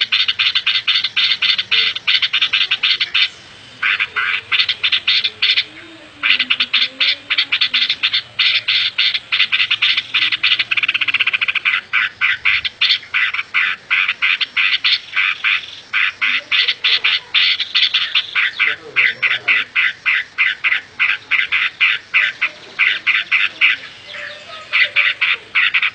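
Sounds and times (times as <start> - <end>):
sharp pulsed animal calls: 0.0 - 25.9.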